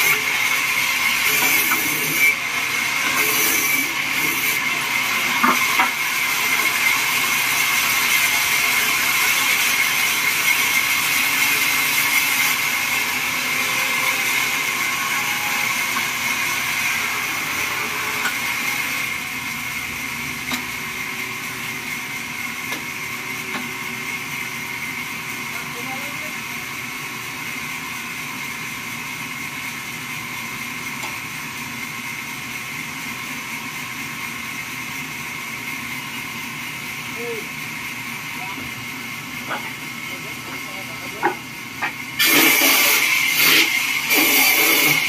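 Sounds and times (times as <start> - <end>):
bandsaw mill whining: 0.0 - 45.0.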